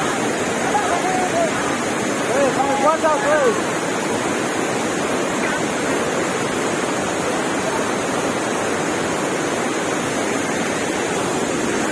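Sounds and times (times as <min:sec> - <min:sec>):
waterfall roaring: 0:00.0 - 0:11.9.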